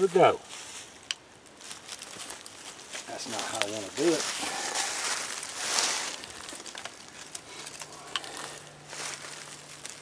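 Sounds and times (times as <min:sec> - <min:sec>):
dry tinder rustling and crackling: 0:00.1 - 0:10.0.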